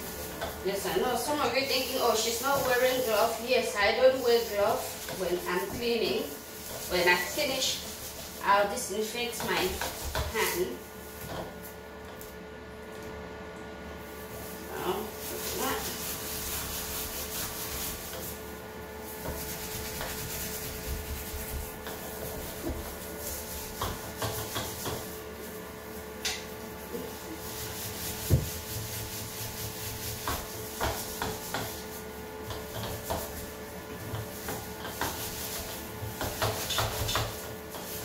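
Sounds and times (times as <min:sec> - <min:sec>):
steel wool scrubbing ceramic sink: 0:00.0 - 0:11.7, 0:14.0 - 0:38.0.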